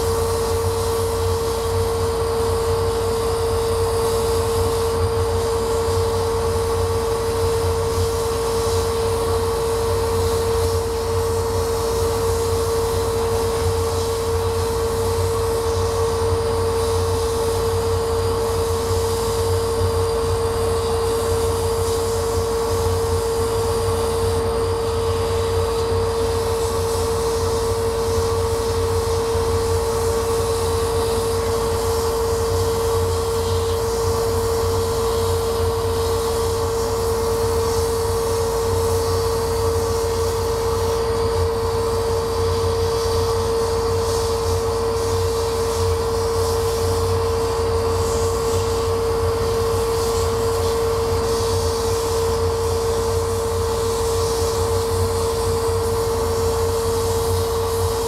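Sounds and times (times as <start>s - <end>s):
laser cutter machine drone: 0.0s - 58.0s.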